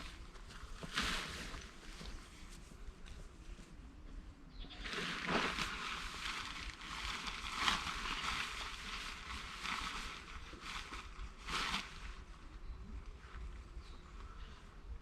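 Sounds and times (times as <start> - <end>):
rustling and crunching: 0.0 - 14.6.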